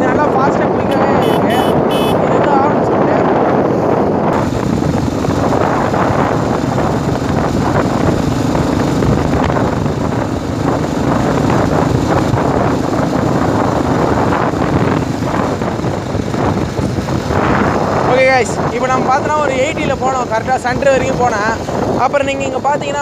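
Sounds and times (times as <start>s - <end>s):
motorcycle engine cruising: 0.0s - 23.0s
wind rushing over microphone: 0.0s - 23.0s.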